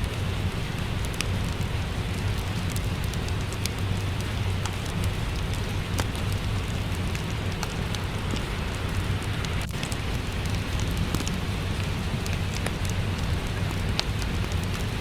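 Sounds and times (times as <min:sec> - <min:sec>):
fireplace crackling: 0:00.0 - 0:15.0
steady rain falling: 0:00.0 - 0:15.0.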